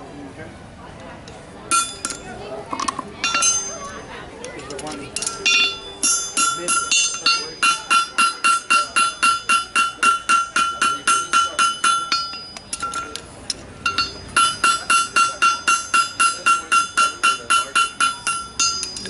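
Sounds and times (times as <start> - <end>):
hammer striking horseshoe on anvil: 1.7 - 2.3, 3.2 - 4.0, 4.8 - 19.0.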